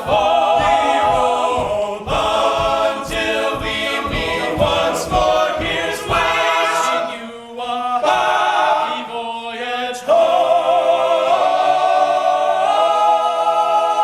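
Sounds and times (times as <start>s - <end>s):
male a cappella group singing: 0.0s - 14.0s.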